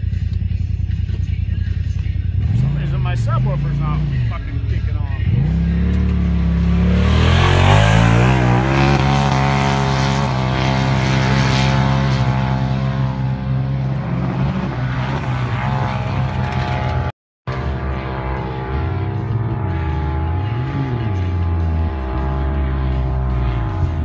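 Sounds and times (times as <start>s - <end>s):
engine running at high revs: 2.3s - 24.0s.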